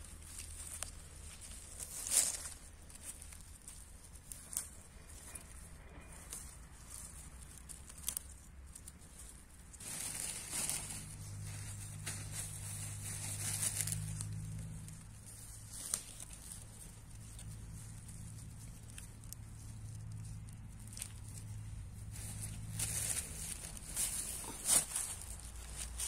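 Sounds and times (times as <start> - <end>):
greens rustling and tearing: 0.0 - 26.0
low steady hum: 0.0 - 26.0.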